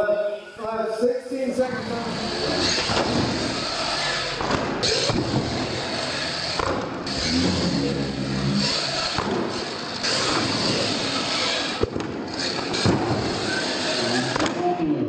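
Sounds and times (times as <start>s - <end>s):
toy truck motor revving: 1.8s - 14.4s.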